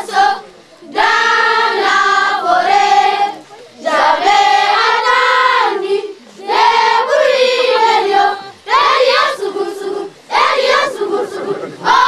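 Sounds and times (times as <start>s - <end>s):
young voices singing together: 0.0s - 12.0s.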